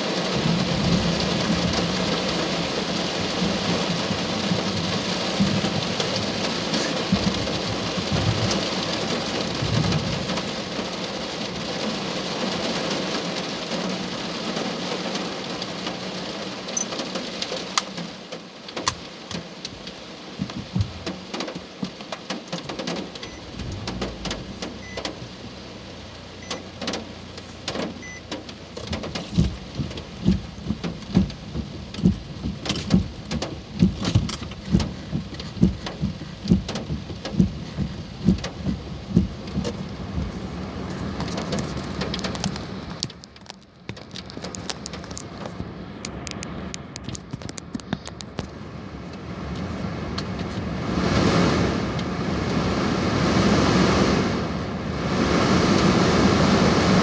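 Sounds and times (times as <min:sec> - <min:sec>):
heavy rain hiss: 0:00.0 - 0:57.0.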